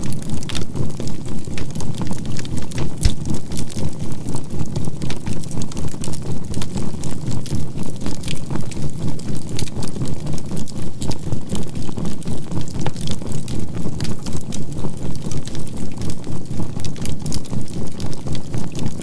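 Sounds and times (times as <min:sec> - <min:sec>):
charcoal crackling and popping: 0:00.0 - 0:19.0.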